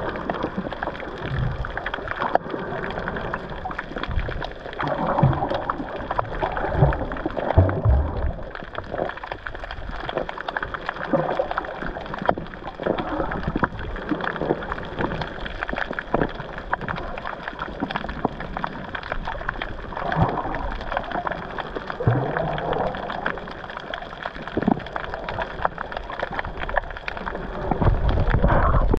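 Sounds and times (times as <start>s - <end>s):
muffled water sloshing and gurgling: 0.0s - 29.0s
small crackles and ticks: 0.0s - 29.0s.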